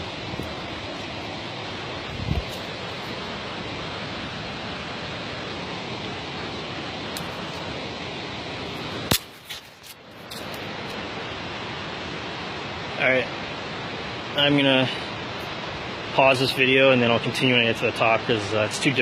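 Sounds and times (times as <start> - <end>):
steady rushing outdoor noise: 0.0 - 19.0.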